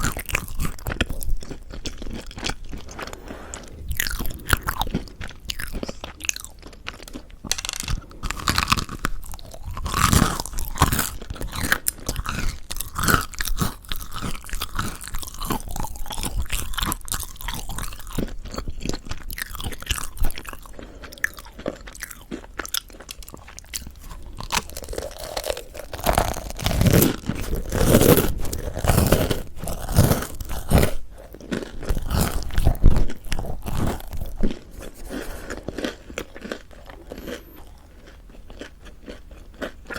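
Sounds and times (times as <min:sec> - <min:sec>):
crunchy chewing of bread: 0:00.0 - 0:39.9.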